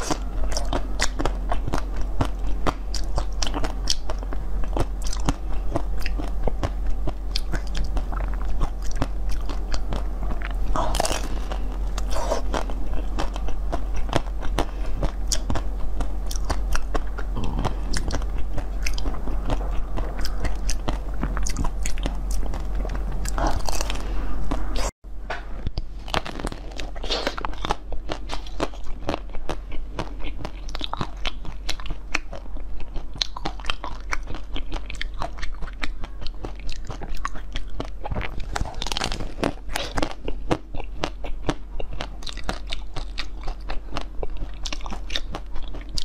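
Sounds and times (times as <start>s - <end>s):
crunchy chewing: 0.0s - 24.9s, 25.7s - 46.0s
steady low hum: 0.0s - 46.0s.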